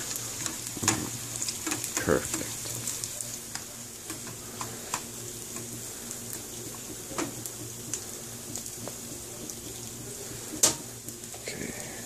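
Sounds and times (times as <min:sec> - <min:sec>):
sausage frying in oil: 0:00.0 - 0:12.0.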